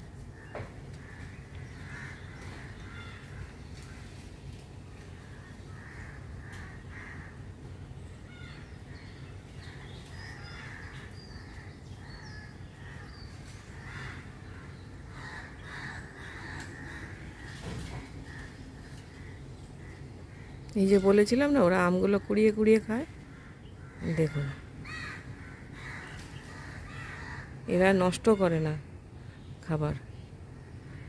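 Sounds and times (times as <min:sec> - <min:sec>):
low background rumble: 0:00.0 - 0:31.0
crows cawing: 0:00.3 - 0:07.7, 0:08.3 - 0:21.7, 0:23.1 - 0:29.4.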